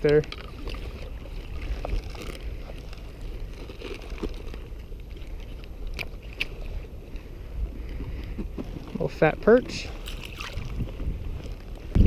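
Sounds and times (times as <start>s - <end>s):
wind buffeting microphone: 0.0s - 3.9s, 4.8s - 12.0s
small waves washing: 0.0s - 12.0s.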